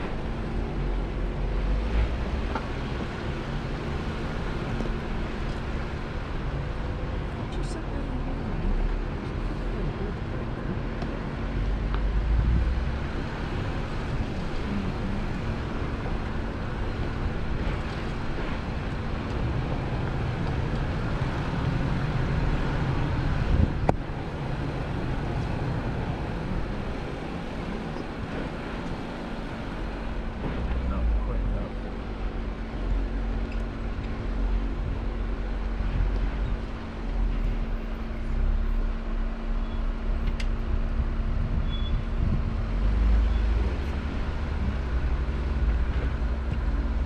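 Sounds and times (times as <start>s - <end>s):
vehicle engine low rumble: 0.0s - 47.0s.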